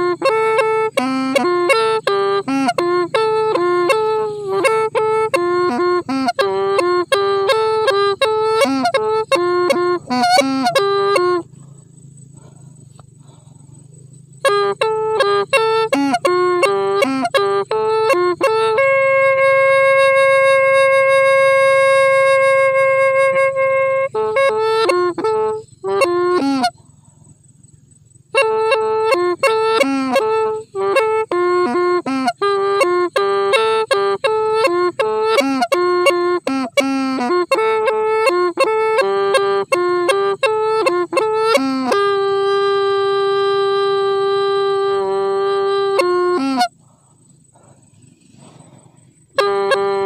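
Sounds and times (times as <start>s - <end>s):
bamboo flute playing: 0.0s - 11.7s, 14.3s - 26.8s, 28.3s - 47.0s, 48.4s - 50.0s
reedy pipe melody: 0.0s - 26.9s, 28.2s - 50.0s.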